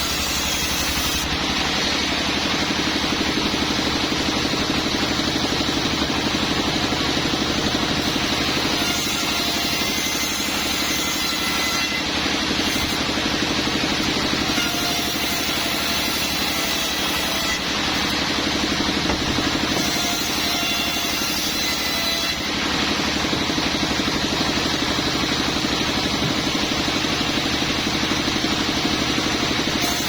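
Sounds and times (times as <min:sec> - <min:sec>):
sawmill engine drone: 0:00.0 - 0:30.0.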